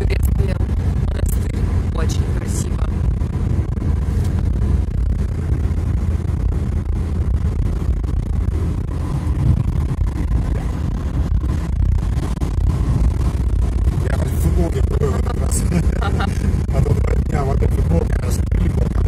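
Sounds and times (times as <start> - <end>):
car road and engine noise: 0.0 - 19.0
wind buffeting microphone: 0.0 - 19.0.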